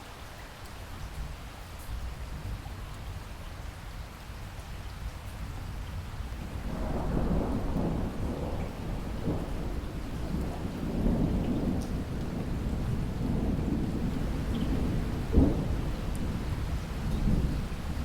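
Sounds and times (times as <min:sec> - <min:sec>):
steady rain: 0:00.0 - 0:18.0
low rumble of thunder: 0:01.2 - 0:18.0.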